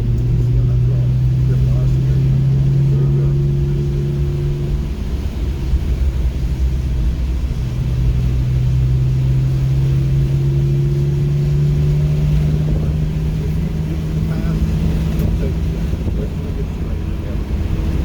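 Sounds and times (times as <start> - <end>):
car engine droning inside cabin: 0.0 - 18.0.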